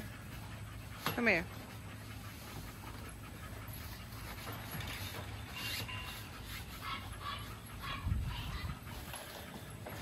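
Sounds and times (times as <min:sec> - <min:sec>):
dog panting and whimpering: 0:00.0 - 0:10.0.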